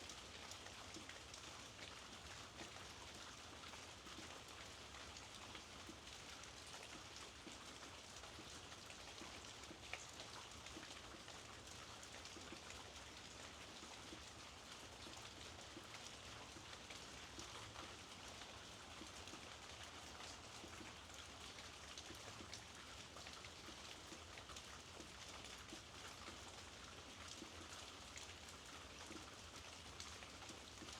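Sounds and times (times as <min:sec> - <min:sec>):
soft rain falling: 0:00.0 - 0:30.9.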